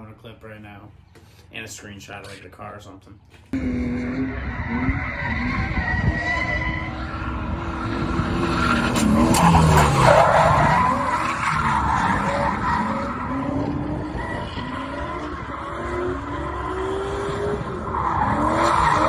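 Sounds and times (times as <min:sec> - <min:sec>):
car engine revving: 0:03.6 - 0:19.0.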